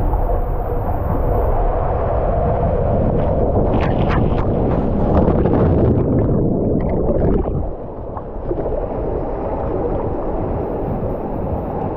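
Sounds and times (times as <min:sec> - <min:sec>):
water rushing through slide tube: 0:00.0 - 0:11.9
water sloshing and gurgling: 0:00.0 - 0:11.9.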